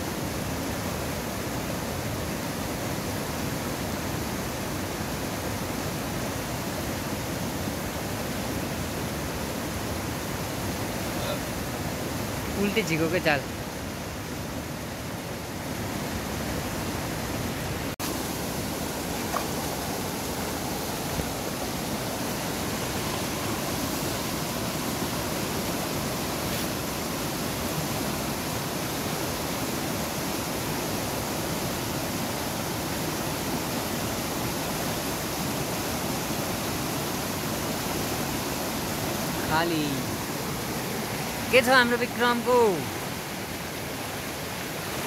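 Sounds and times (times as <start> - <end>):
fast-flowing river rushing: 0.0 - 45.0.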